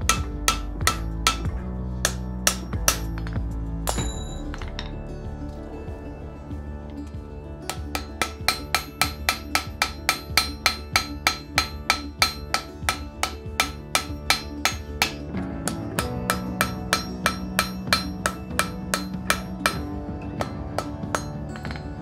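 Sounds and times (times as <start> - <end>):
hammer striking iron on anvil: 0.0 - 5.0, 7.6 - 22.0
background music: 0.0 - 22.0.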